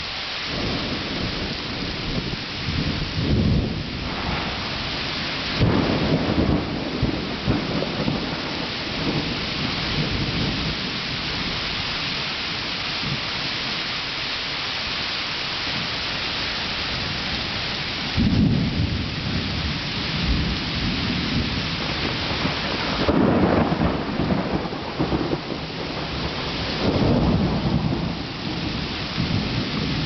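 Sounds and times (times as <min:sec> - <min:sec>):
heavy rain pouring: 0:00.0 - 0:30.0
thunder rumbling: 0:00.5 - 0:13.9, 0:15.7 - 0:30.0.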